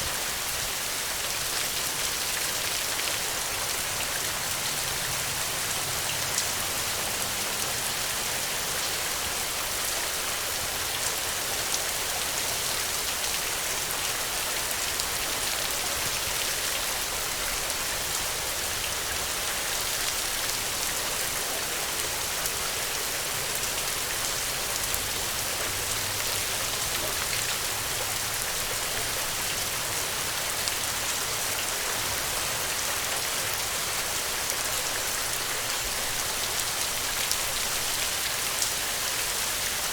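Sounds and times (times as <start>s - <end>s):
rain falling on ground: 0.0s - 39.9s.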